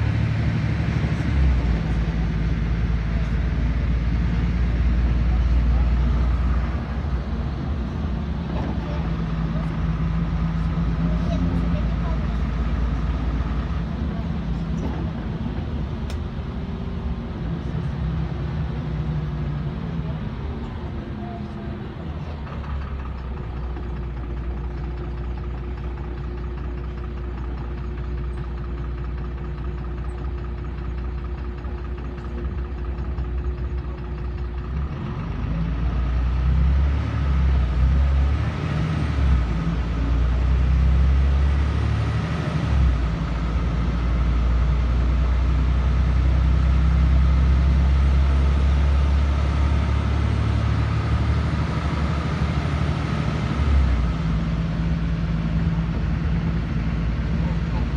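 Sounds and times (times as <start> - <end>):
bus engine rumble: 0.0 - 57.9.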